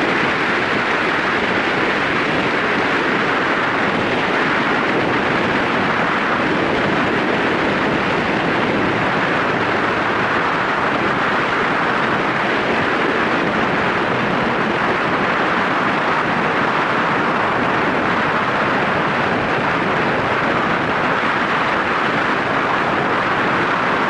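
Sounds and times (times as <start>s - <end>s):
motorcycle road noise: 0.0s - 24.0s
wind rush: 0.0s - 24.0s.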